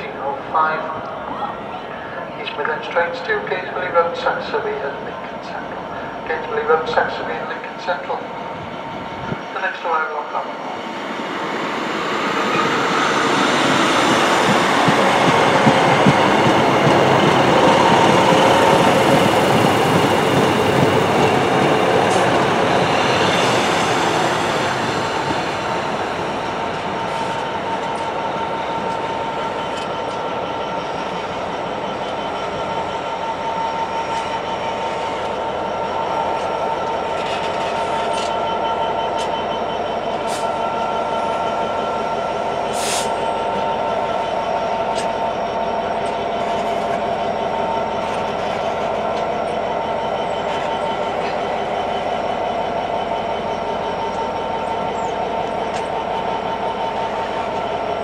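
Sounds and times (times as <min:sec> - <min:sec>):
train wheel and engine rumble: 0:00.0 - 0:58.0
high squeal of train wheels: 0:10.6 - 0:58.0.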